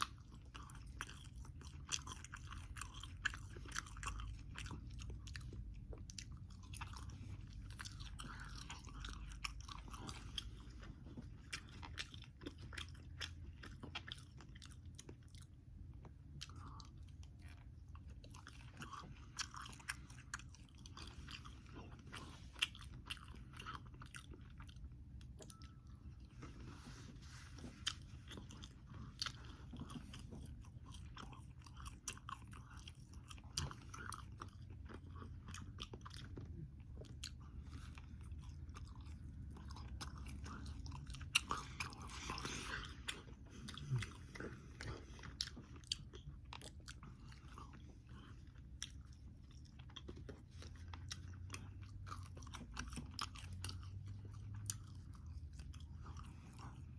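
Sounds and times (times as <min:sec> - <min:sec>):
chewing crispy bacon: 0:00.0 - 0:56.9.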